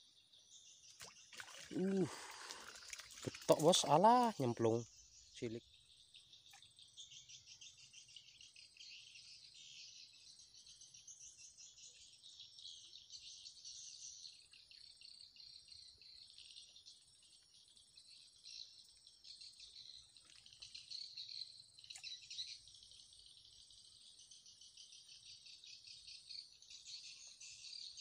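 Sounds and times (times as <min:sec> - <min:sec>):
insects chirping trill: 0:00.3 - 0:28.0.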